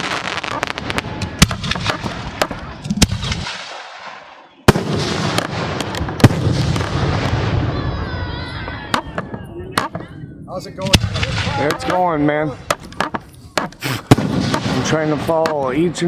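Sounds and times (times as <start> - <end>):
fireworks bangs: 0.0 - 16.0
fireworks crackle and rumble: 0.0 - 16.0.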